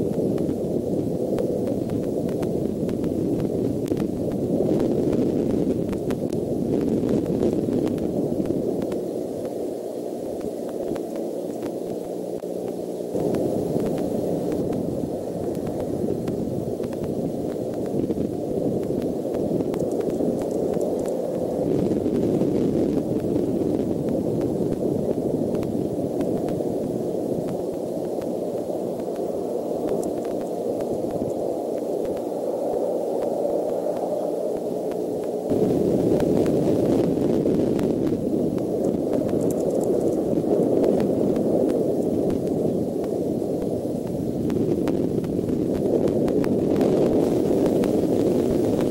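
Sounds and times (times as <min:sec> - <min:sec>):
dull background hiss: 0:00.0 - 0:48.9.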